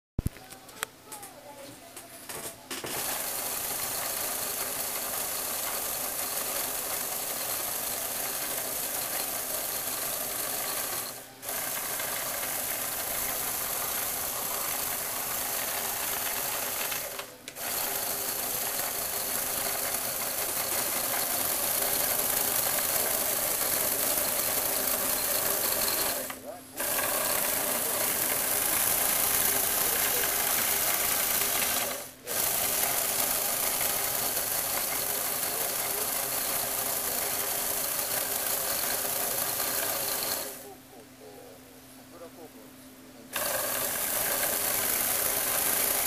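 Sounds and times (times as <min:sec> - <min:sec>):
small electric motor whirring: 0:02.9 - 0:40.7, 0:43.3 - 0:46.0.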